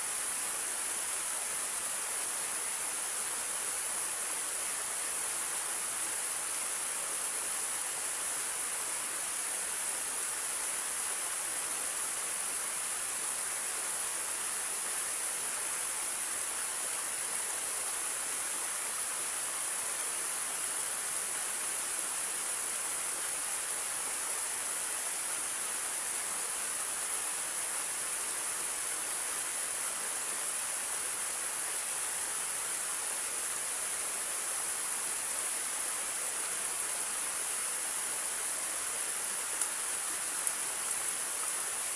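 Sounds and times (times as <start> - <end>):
small waterfall rushing: 0.0 - 41.9.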